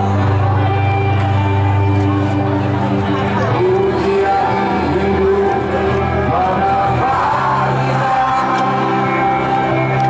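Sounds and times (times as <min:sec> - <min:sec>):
rock anthem over loudspeakers: 0:00.0 - 0:10.0.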